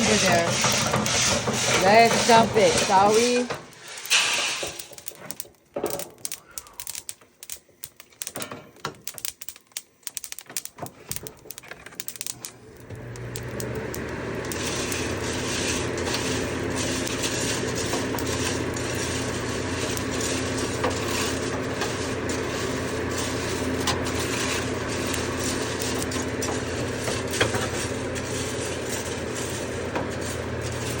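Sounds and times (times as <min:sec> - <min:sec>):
coffee roaster motor hum: 0:00.0 - 0:07.6, 0:10.2 - 0:31.0
roasted beans rattling: 0:00.0 - 0:31.0.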